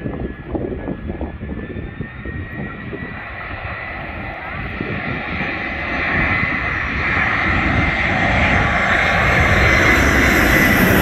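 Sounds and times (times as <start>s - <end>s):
jet engines on approach: 0.0s - 11.0s.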